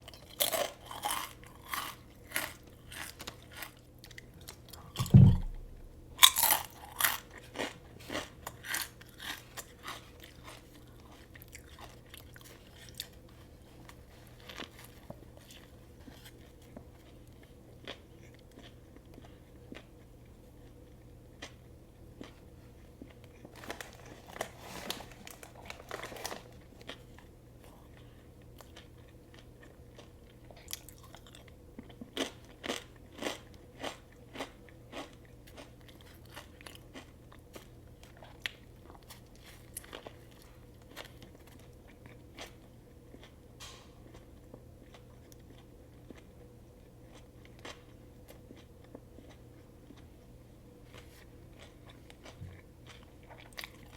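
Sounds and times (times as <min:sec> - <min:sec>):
crunchy chewing: 0:00.0 - 0:53.9
faint low hum: 0:00.0 - 0:53.9.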